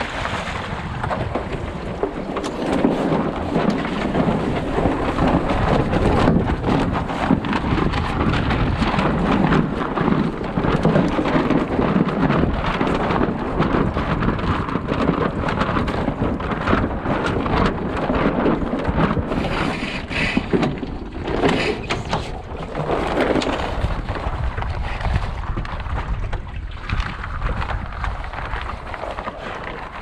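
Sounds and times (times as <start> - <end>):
water splashing along hull: 0.0 - 30.0
wind buffeting microphone: 0.0 - 30.0.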